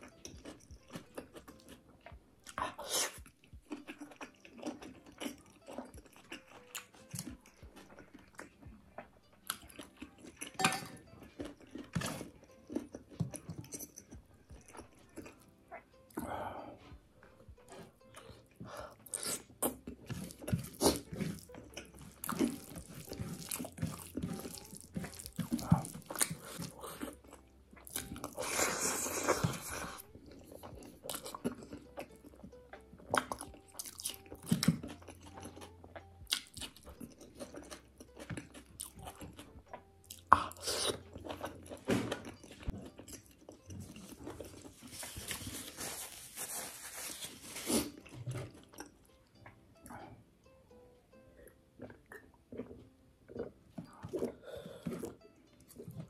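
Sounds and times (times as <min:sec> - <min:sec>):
person chewing and crunching: 0:00.0 - 0:50.2, 0:51.4 - 0:56.0.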